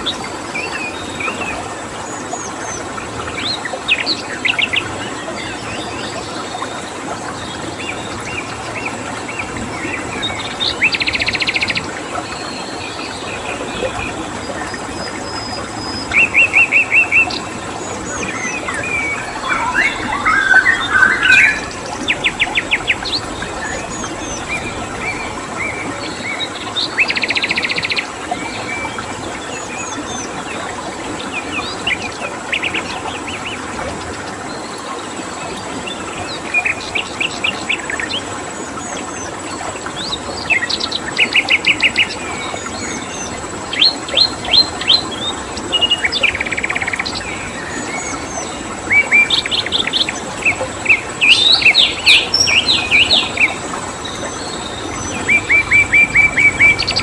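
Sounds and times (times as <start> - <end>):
songbirds chirping and trilling: 0.0 - 34.7, 35.8 - 57.0
flowing water: 0.0 - 57.0.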